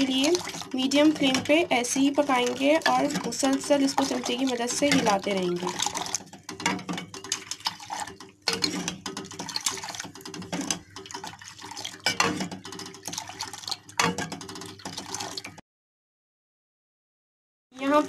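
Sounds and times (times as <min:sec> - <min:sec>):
tea pouring and splashing: 0:00.0 - 0:15.6.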